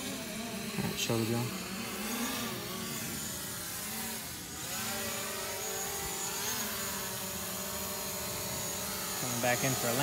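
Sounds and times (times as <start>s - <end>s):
drone propellers whirring: 0.0s - 10.0s.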